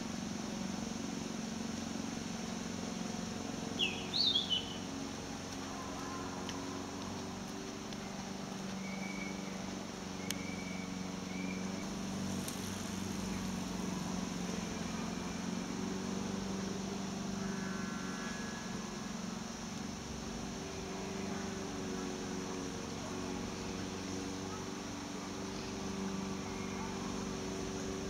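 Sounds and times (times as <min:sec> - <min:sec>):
low drone: 0:00.0 - 0:28.0
outdoor hum and hiss: 0:00.0 - 0:28.0.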